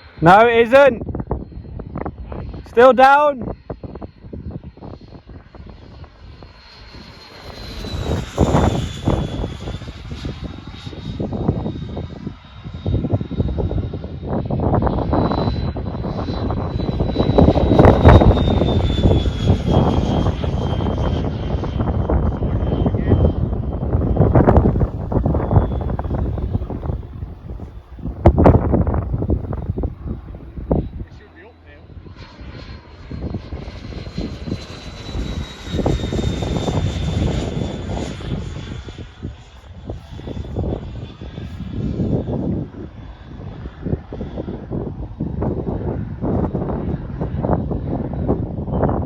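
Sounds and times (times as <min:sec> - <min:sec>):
model jet fan whine: 0:00.0 - 0:49.0
wind rumble on microphone: 0:00.0 - 0:49.0.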